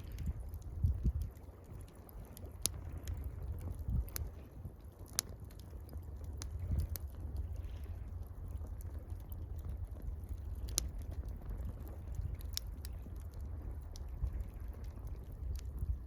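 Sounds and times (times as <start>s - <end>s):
campfire crackling and popping: 0.0s - 16.0s
low rumble: 0.0s - 16.0s.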